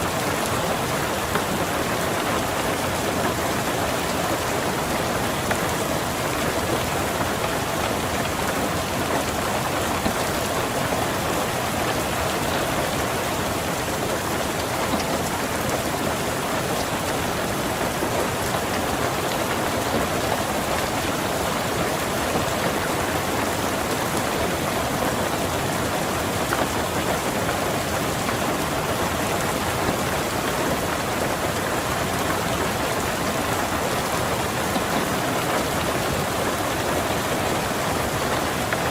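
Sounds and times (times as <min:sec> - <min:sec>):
heavy rain on car roof: 0:00.0 - 0:38.9.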